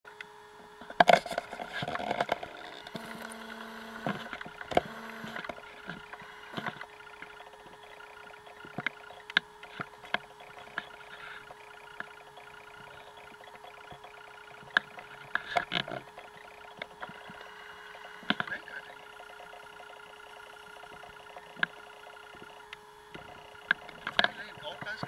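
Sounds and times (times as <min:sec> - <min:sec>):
faint steady hum: 0:00.1 - 0:25.0.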